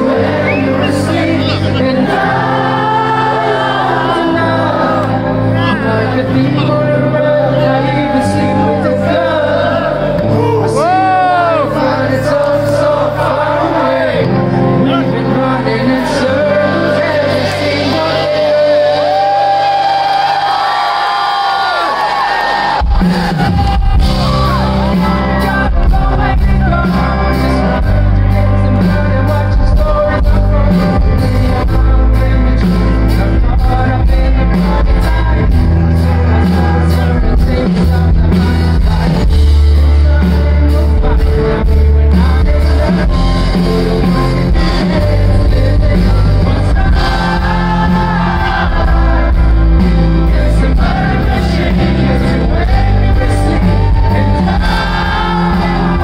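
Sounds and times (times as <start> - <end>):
live rock band: 0.0 - 56.0
person singing lead vocals: 0.0 - 56.0.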